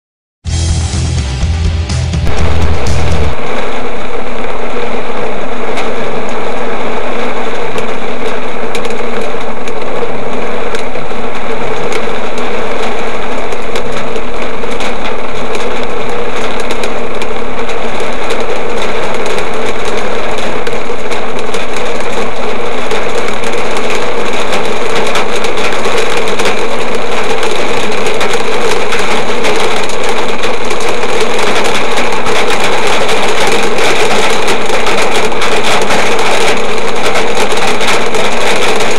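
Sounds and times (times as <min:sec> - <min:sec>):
heavy rain on car roof: 0:02.2 - 0:38.9.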